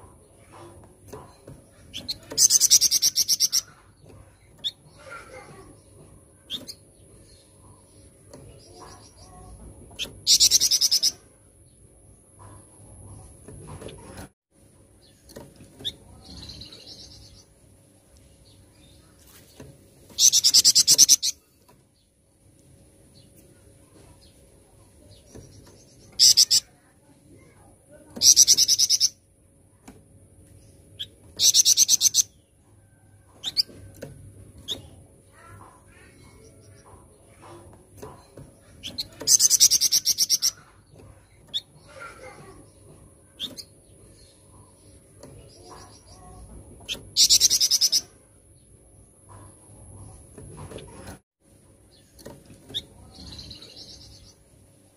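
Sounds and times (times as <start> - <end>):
songbird chirping and warbling: 0.0 - 54.9.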